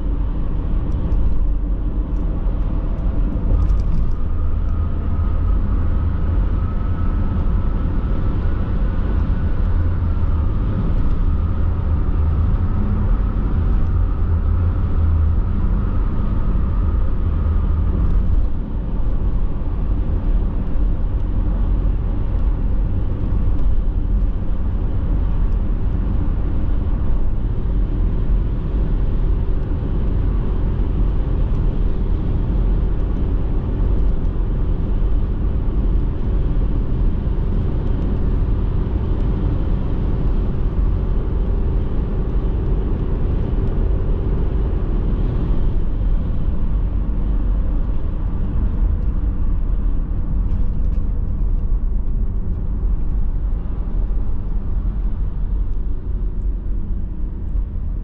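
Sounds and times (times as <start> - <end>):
engine hum: 0.0 - 58.0
tyres rumbling on road: 0.0 - 58.0.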